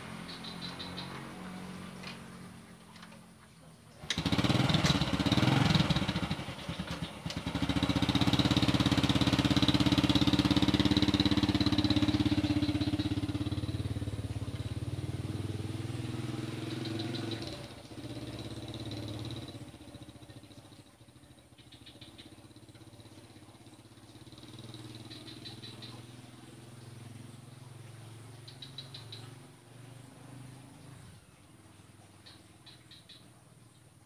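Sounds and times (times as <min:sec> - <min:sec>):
motorcycle engine running: 0:04.0 - 0:31.3.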